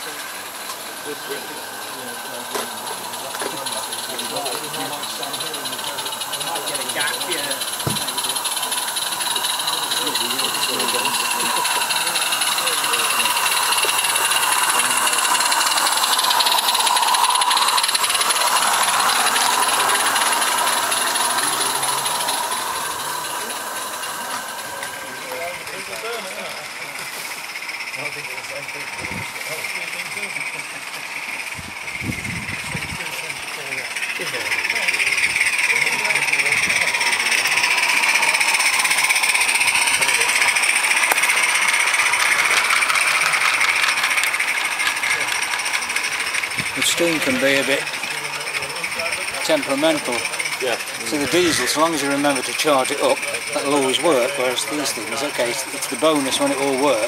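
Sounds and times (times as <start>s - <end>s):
steam locomotive hissing and chuffing: 0.0s - 57.0s.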